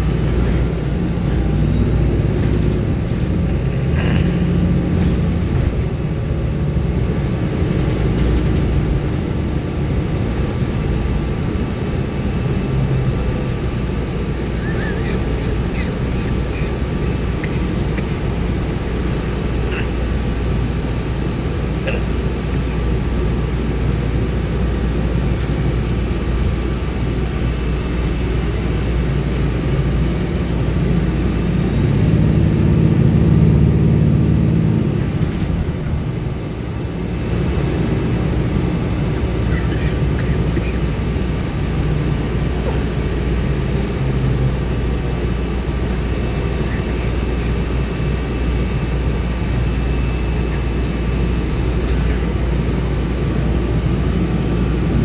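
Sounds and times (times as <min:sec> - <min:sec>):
bus engine hum: 0:00.0 - 0:55.0
road noise: 0:00.0 - 0:55.0.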